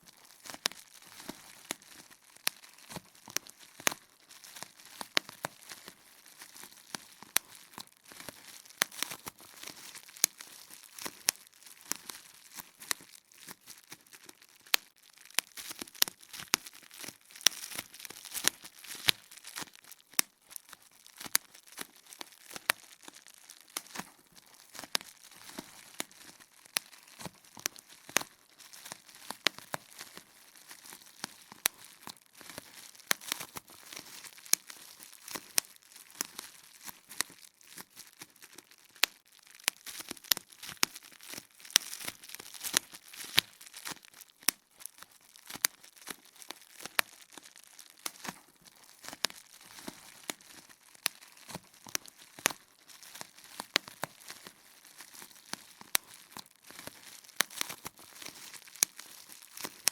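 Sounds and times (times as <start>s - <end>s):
bubble wrap popping: 0.0s - 59.9s
plastic sheet crinkling: 0.0s - 59.9s.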